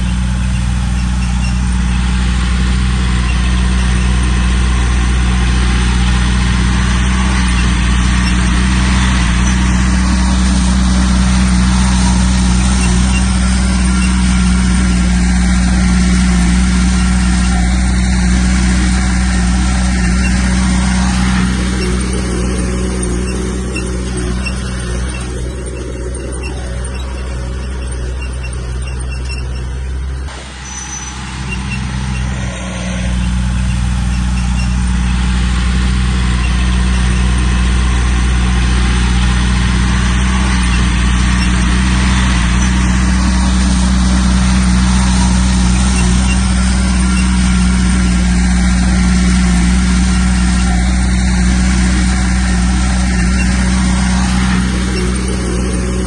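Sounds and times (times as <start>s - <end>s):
heavy diesel machinery roaring: 0.0s - 56.0s.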